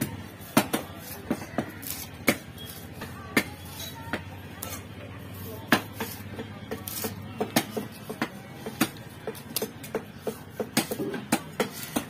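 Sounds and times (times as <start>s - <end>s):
knife chopping on wooden block: 0.0s - 4.8s, 5.6s - 12.0s.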